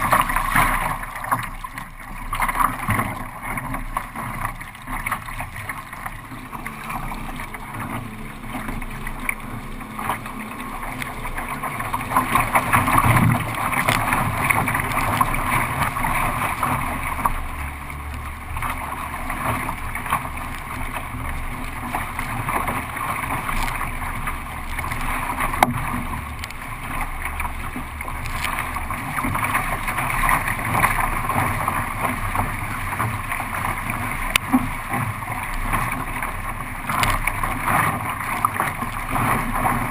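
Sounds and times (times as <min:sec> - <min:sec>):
water rushing past a boat: 0:00.0 - 0:39.9.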